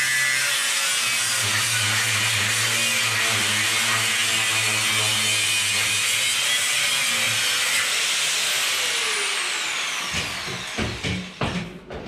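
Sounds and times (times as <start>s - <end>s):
angle grinder cutting concrete: 0.0s - 11.4s.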